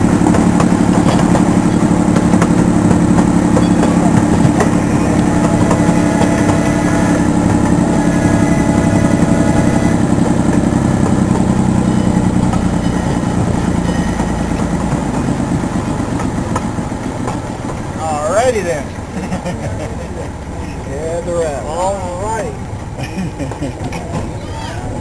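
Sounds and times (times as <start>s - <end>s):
small train engine running: 0.0s - 25.0s.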